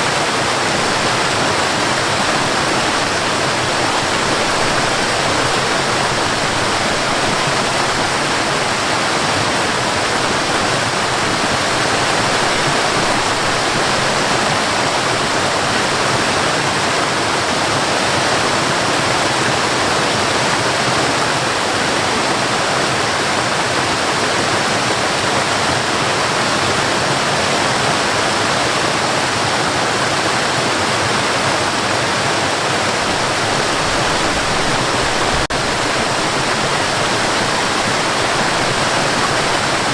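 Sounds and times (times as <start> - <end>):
small waterfall pouring: 0.0 - 39.9.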